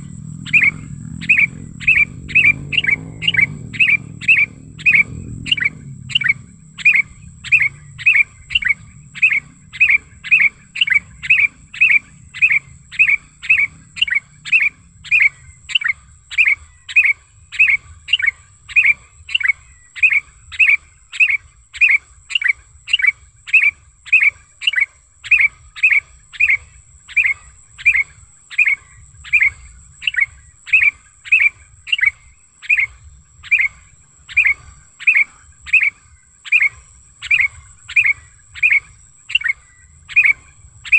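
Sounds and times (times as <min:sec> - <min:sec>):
bird calling sharp repeated notes: 0:00.0 - 0:40.9
faint high-pitched whine: 0:00.0 - 0:40.9.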